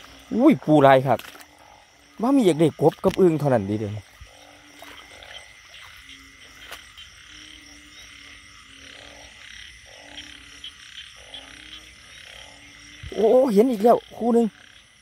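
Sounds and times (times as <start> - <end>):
frogs croaking: 0.0 - 15.0
high-pitched frog chorus: 0.0 - 15.0.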